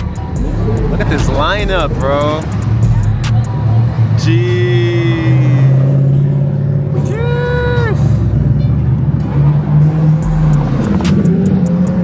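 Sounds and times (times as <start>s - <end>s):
supercar engines droning: 0.0s - 12.0s.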